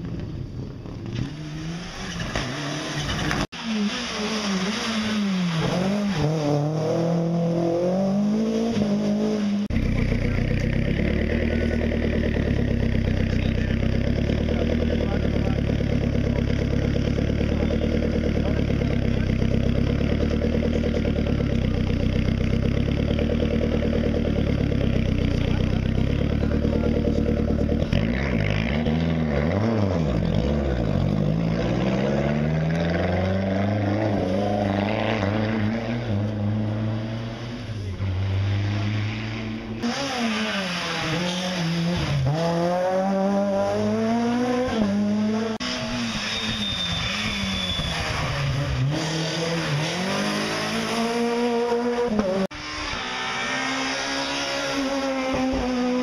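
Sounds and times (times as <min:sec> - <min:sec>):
rally car engine revving: 0:00.0 - 0:56.0
rally cars accelerating hard: 0:01.0 - 0:56.0.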